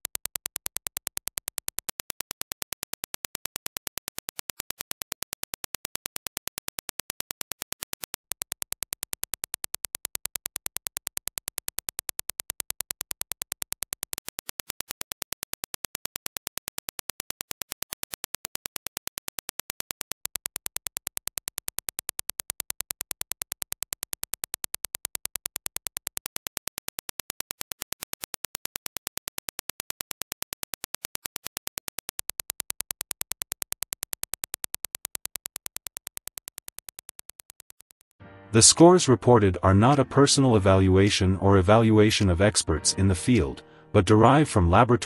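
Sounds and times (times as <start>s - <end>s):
rapid sharp clicks: 0.0s - 38.2s.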